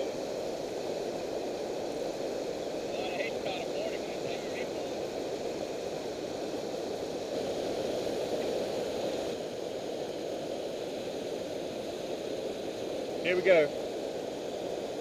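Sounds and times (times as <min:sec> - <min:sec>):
water rushing over dam spillway: 0:00.0 - 0:15.0.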